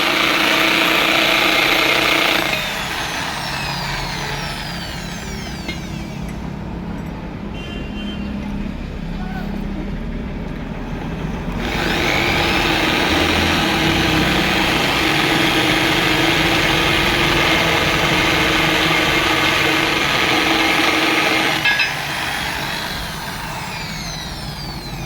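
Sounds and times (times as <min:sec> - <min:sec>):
drill grinding whir: 0:00.0 - 0:06.6, 0:10.8 - 0:25.0.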